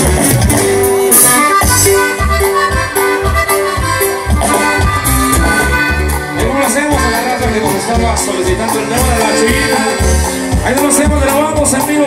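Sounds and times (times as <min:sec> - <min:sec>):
live dance band music: 0:00.0 - 0:12.0.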